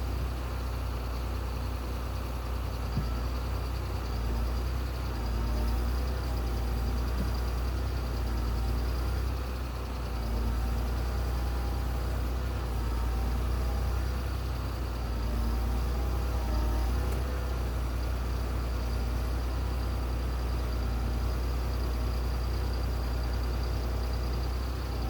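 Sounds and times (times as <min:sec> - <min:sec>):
heavy engine rumbling: 0:00.0 - 0:25.0.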